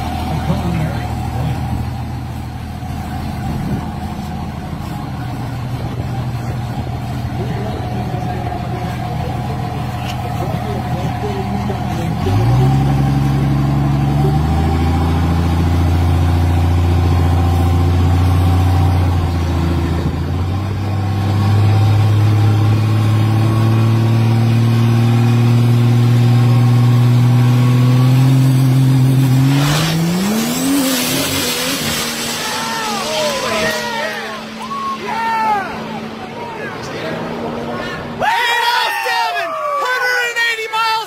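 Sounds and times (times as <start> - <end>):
diesel truck engine revving: 0.0 - 38.8.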